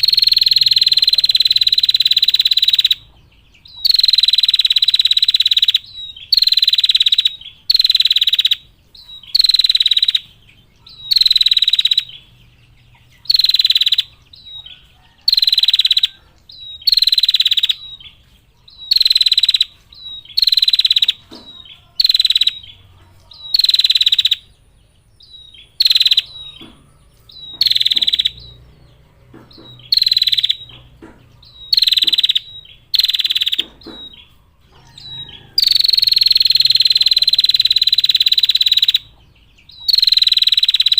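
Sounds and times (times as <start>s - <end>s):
bird trill call: 0.0s - 40.9s.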